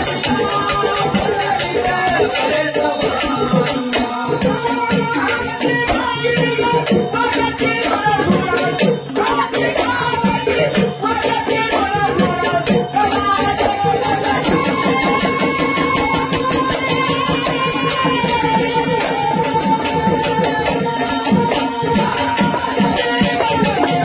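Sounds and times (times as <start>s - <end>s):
hand percussion: 0.0s - 24.0s
jingling rattling percussion: 0.0s - 24.0s.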